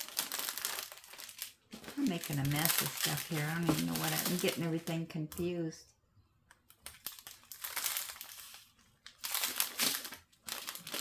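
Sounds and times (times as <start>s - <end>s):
plastic packets crinkling: 0.0s - 5.5s, 6.5s - 11.0s.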